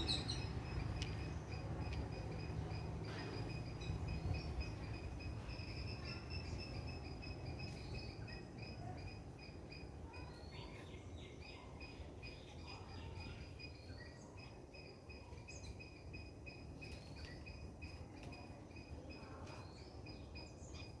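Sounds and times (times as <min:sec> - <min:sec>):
cricket chirping: 0:00.0 - 0:10.3, 0:11.5 - 0:19.3.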